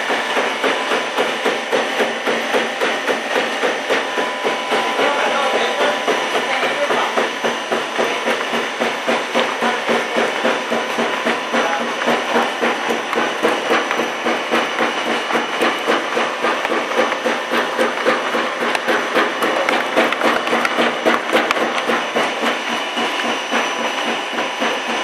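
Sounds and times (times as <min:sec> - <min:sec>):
machine rhythmic clatter: 0:00.0 - 0:25.0.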